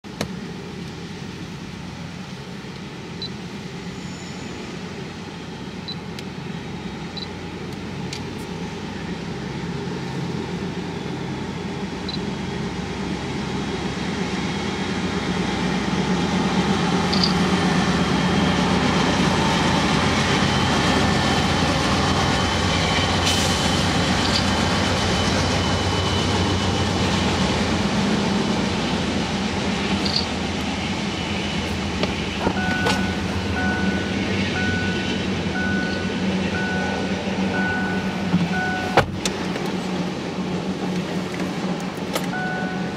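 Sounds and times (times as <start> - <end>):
freight cars rolling rumble: 0.0 - 42.9
locomotive rumble: 0.0 - 42.9.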